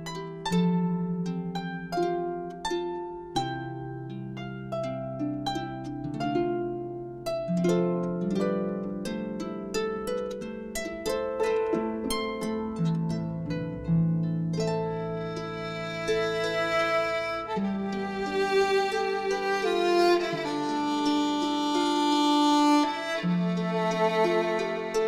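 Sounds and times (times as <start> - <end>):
harp music: 0.0 - 25.0.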